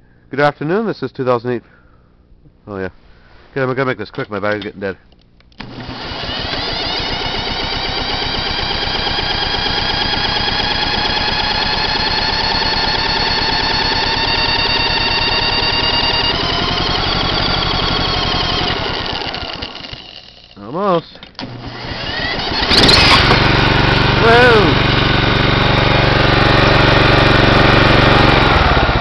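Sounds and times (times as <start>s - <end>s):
power drill cranking engine: 5.6s - 29.0s.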